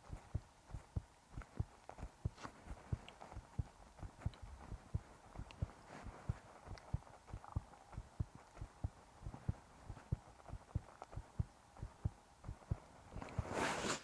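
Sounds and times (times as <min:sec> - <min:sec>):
heartbeat thumps: 0:00.0 - 0:13.6.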